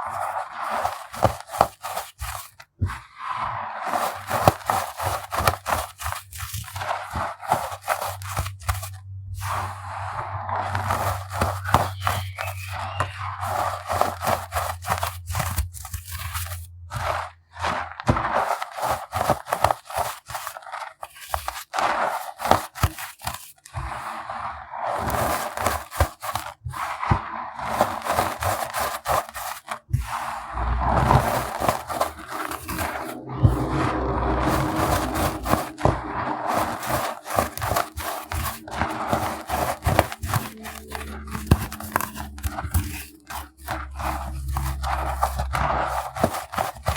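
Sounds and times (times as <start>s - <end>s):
baking soda pebbles crunching: 0.0s - 46.9s.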